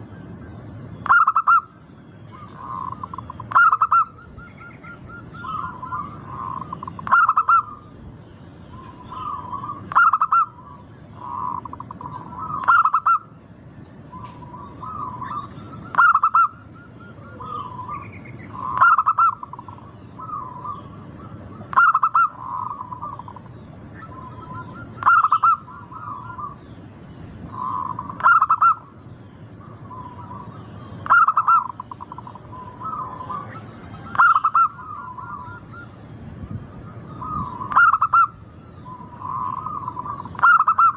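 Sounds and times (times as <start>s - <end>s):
dove cooing song: 0.0s - 13.4s, 14.0s - 40.9s.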